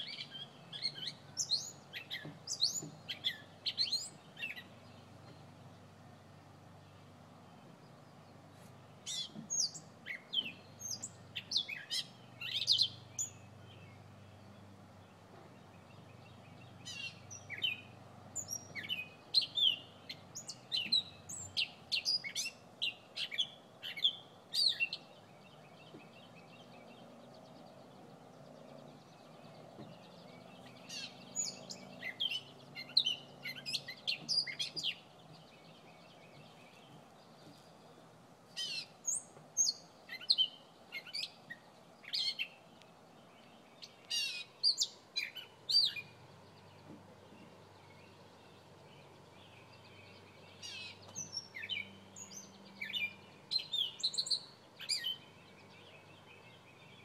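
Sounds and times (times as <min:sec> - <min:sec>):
small bird chirping: 0:00.0 - 0:57.0.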